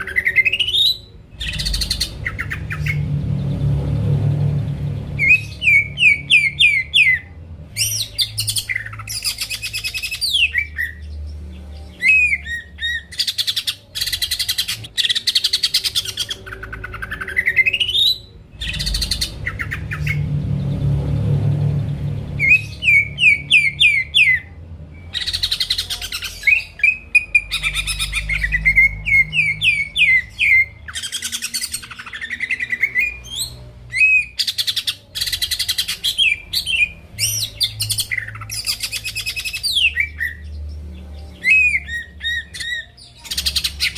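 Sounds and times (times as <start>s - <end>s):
bird singing: 0.0s - 43.9s.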